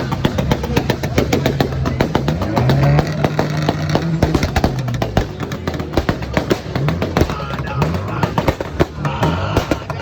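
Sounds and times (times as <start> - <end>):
exhaust popping and crackling: 0.0 - 10.0.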